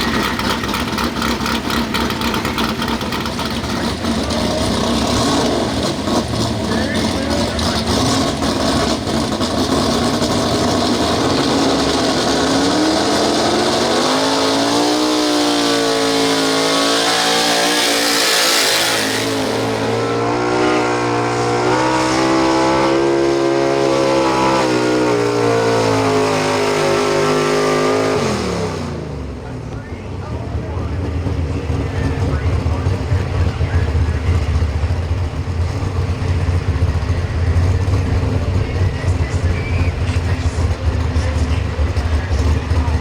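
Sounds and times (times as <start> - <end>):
truck engine at full throttle: 0.0 - 43.0.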